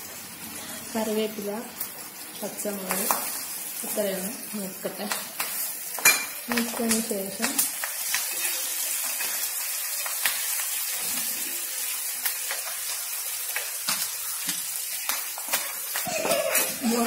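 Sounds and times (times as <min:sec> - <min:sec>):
frying in hot oil: 0:00.0 - 0:17.0.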